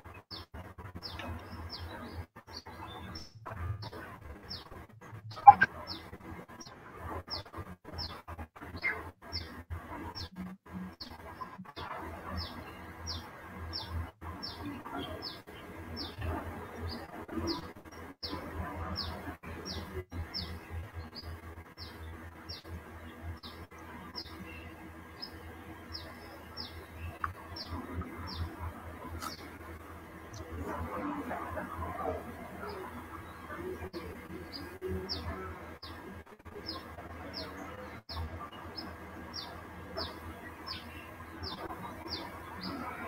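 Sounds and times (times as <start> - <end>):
steady low hum: 0.0 - 43.0
small bird chirping: 0.1 - 30.6, 32.6 - 43.0.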